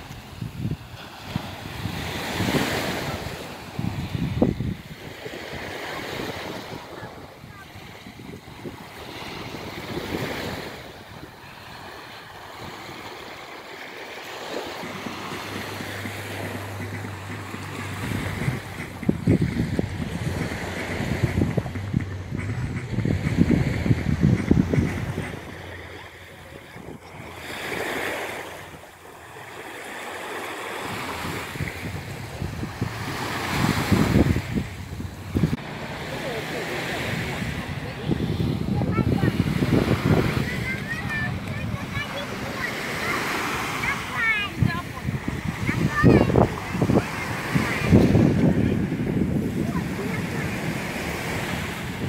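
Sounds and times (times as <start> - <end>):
wind buffeting microphone: 0.0 - 13.4, 14.4 - 29.4, 30.8 - 52.0
waves washing onto sandy shore: 0.0 - 52.0.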